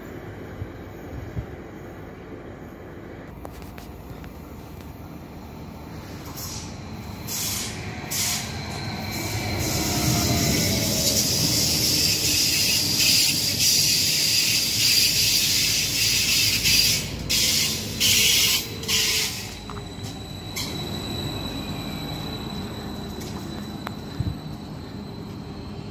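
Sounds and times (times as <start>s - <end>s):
electric train rolling past: 0.0s - 25.9s.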